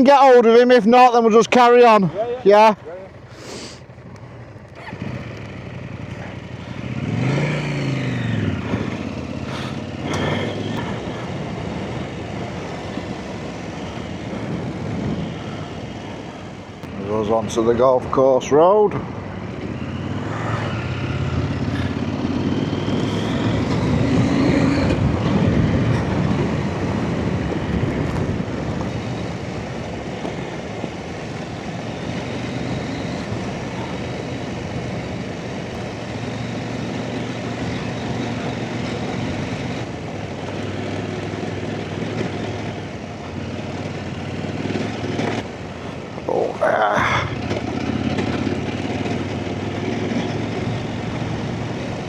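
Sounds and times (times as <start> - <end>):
off-road motorcycle engine: 0.0 - 52.0.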